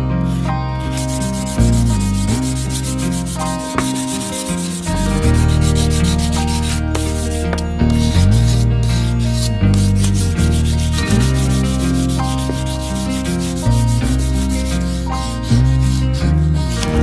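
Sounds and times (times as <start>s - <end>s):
background music with low notes: 0.0s - 17.0s
sandpaper rubbing on wood: 0.8s - 17.0s.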